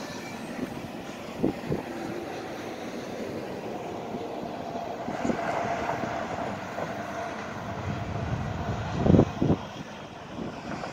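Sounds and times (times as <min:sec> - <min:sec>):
highway traffic noise: 0:00.0 - 0:10.9
train rumble: 0:00.0 - 0:10.9
wind buffeting microphone: 0:00.0 - 0:10.9.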